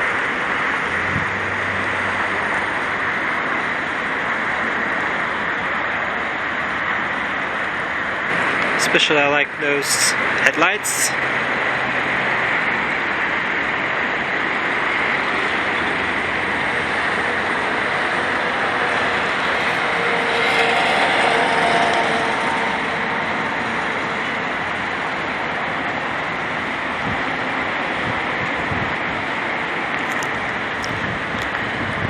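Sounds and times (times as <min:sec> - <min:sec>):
road traffic rushing: 0:00.0 - 0:32.0.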